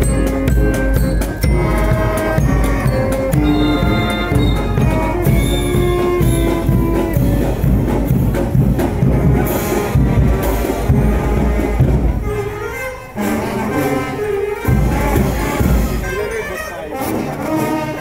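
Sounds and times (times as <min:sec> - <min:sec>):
marching brass band: 0:00.0 - 0:18.0
steady drum beat: 0:00.0 - 0:18.0.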